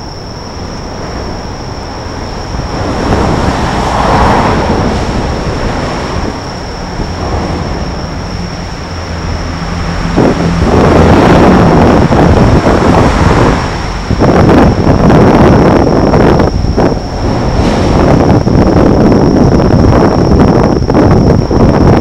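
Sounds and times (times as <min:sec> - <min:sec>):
road traffic passing: 0:00.0 - 0:21.1
faint steady high tone: 0:00.0 - 0:22.0
wind rumble on microphone: 0:00.0 - 0:22.0.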